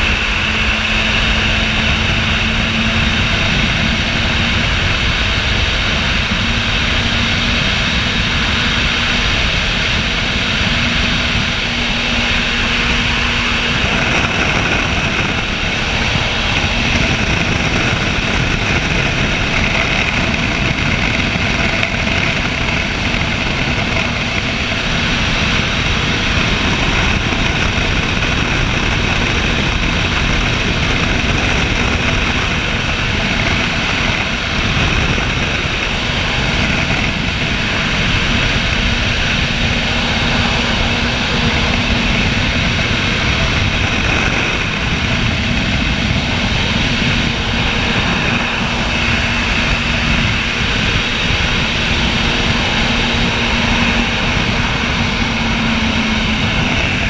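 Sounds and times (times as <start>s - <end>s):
wind tunnel fans rushing air: 0.0s - 57.0s.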